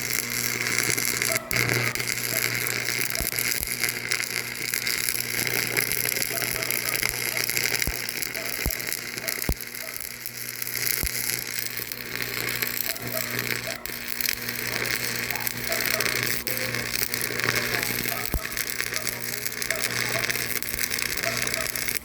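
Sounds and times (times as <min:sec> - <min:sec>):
sharp clicks: 0:00.0 - 0:22.0.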